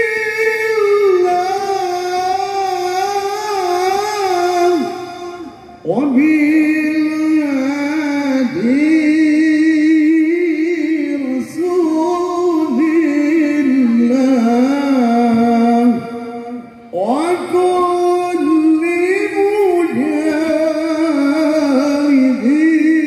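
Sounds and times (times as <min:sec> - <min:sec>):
man singing through microphone: 0:00.0 - 0:23.0.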